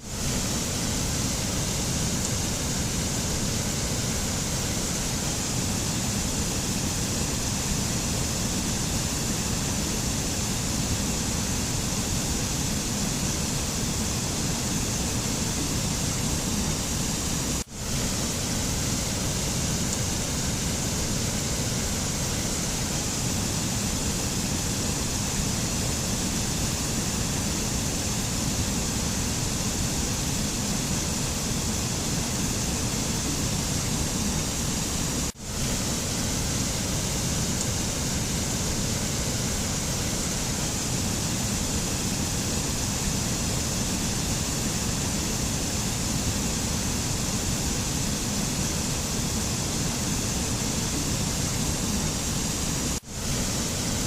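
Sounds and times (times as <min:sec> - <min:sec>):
steady rushing nature ambience: 0:00.0 - 0:54.0.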